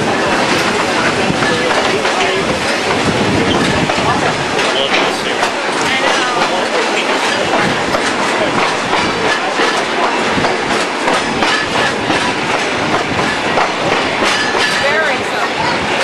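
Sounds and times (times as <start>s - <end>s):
train wheels rattling on track: 0.0s - 16.0s
wheels clacking over rail joints: 0.0s - 16.0s.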